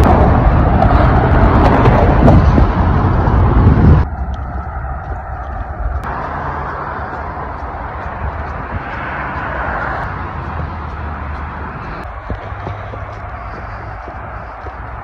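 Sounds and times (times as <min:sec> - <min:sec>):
faint distant traffic: 0:00.0 - 0:15.0
road traffic rushing: 0:00.0 - 0:15.0.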